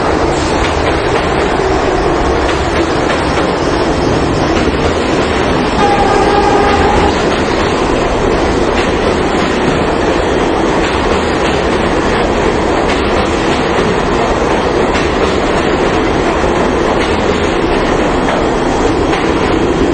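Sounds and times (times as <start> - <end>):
subway train wheels rumbling on rails: 0.0 - 19.9.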